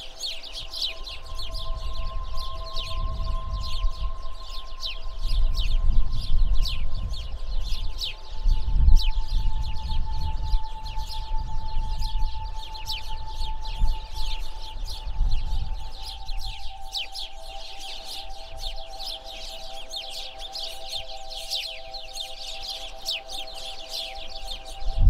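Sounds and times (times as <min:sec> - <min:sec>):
faint steady tones: 0:00.0 - 0:25.0
flock of small birds chirping: 0:00.0 - 0:25.0.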